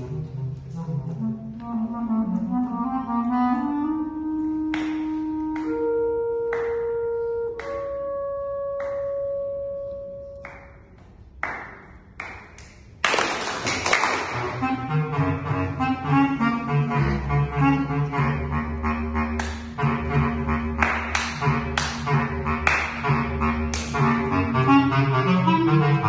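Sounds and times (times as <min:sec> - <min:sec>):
bass clarinet playing: 0:00.0 - 0:10.6, 0:14.3 - 0:26.0.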